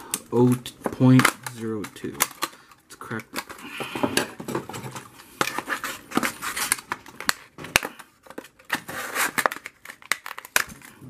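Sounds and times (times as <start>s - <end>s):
plastic snapping and crackling: 0.0s - 11.0s.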